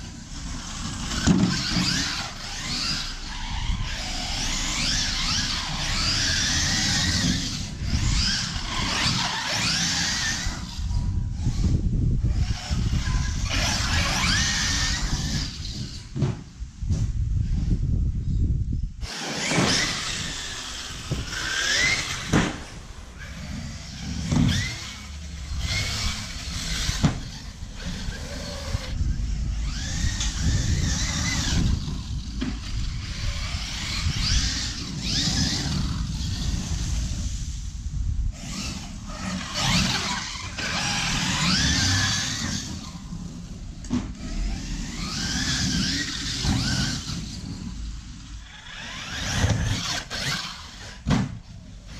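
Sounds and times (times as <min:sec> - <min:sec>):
rc truck motor revving: 0:00.0 - 0:16.2, 0:17.4 - 0:51.9.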